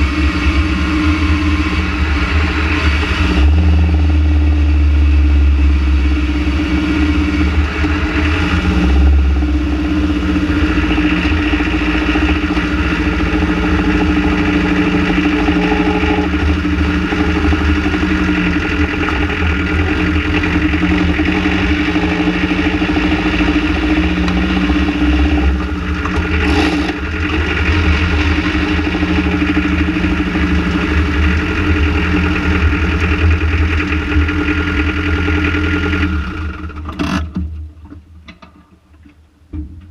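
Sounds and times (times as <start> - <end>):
van engine idling: 0.0 - 38.3.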